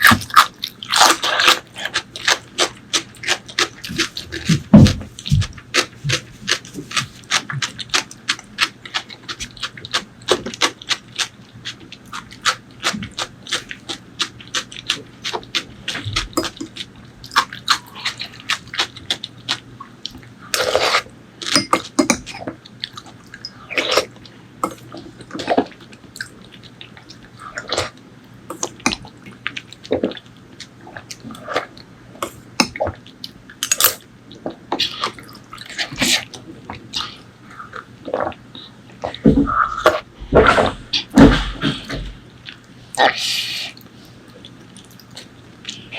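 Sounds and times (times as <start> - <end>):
wet chewing sounds: 0.0 - 45.9.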